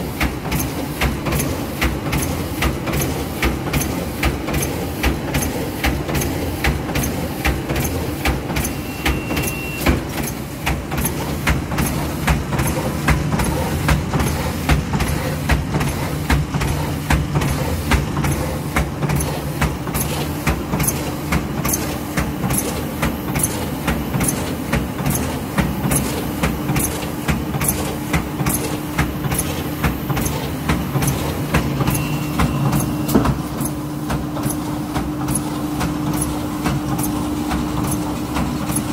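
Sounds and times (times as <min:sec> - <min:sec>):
machine clacking: 0:00.0 - 0:38.9
machine mechanical hum: 0:00.0 - 0:38.9.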